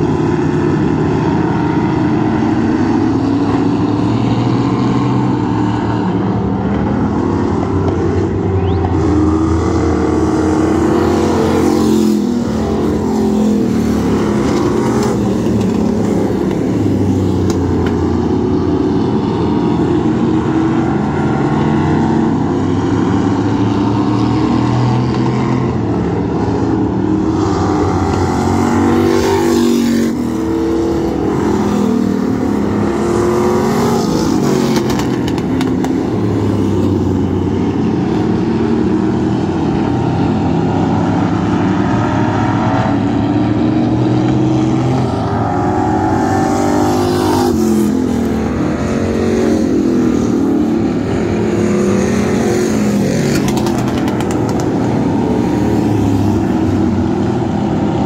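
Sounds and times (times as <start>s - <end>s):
stock car engines racing: 0.0s - 58.0s.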